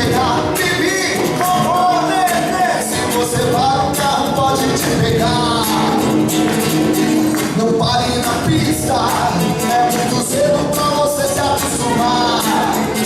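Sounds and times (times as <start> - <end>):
person singing: 0.0 - 13.0
rock band playing: 0.0 - 13.0.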